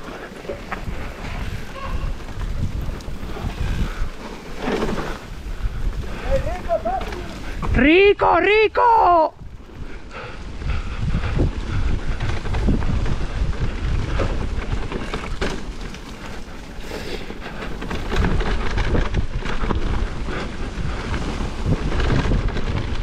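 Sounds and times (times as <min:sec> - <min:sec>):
bike tyres and frame clattering: 0:00.0 - 0:07.9, 0:09.4 - 0:23.0
wind buffeting microphone: 0:00.0 - 0:23.0.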